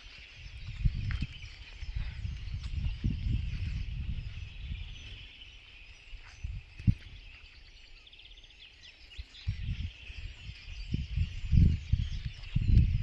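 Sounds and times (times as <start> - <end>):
faint bird chirps: 0.0 - 13.0
wind buffeting microphone: 0.0 - 13.0.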